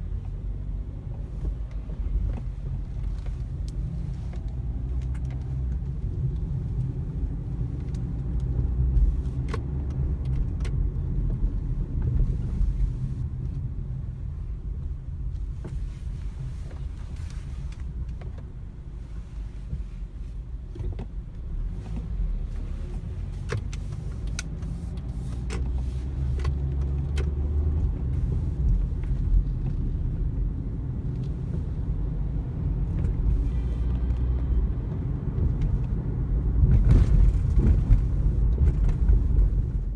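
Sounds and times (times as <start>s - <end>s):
car low rumble: 0.0s - 39.9s.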